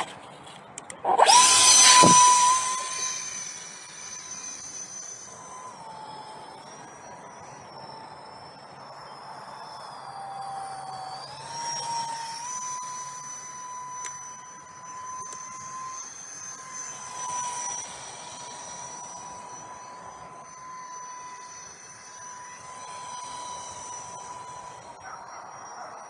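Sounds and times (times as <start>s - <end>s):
electric ducted fan whining: 0.0s - 26.0s.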